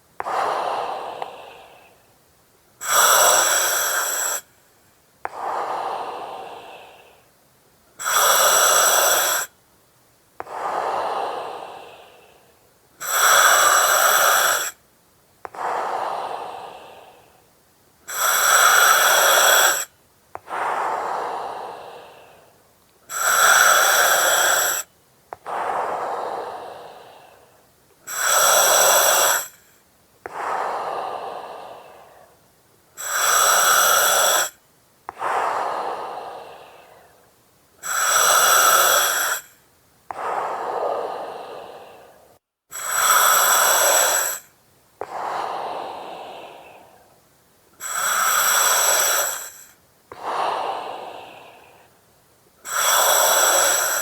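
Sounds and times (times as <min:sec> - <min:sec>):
breathing through oxygen mask: 0:00.2 - 0:02.0, 0:02.8 - 0:04.6, 0:08.0 - 0:09.5, 0:10.4 - 0:14.8, 0:15.5 - 0:17.4, 0:18.1 - 0:32.4, 0:33.0 - 0:37.2, 0:37.8 - 0:47.2, 0:47.8 - 0:52.0, 0:52.6 - 0:54.0.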